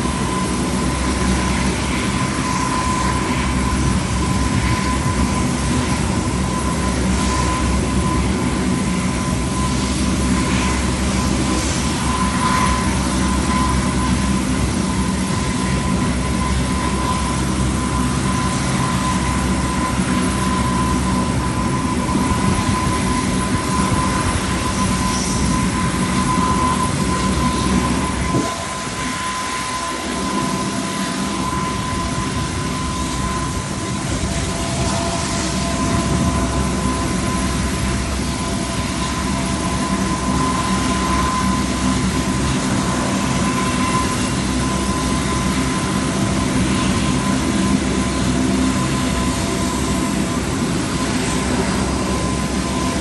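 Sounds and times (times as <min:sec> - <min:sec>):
turboprop engines droning with whine: 0:00.0 - 0:53.0.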